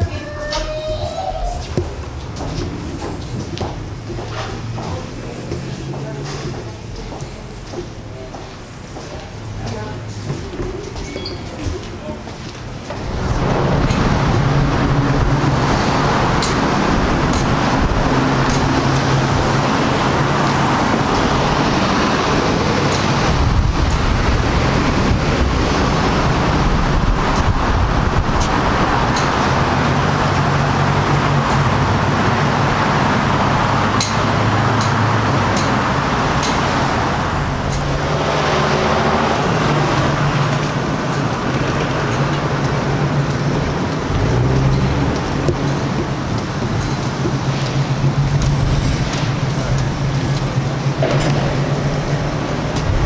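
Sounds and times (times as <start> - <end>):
steady engine hum: 0.0 - 53.0
vehicles passing: 0.0 - 53.0.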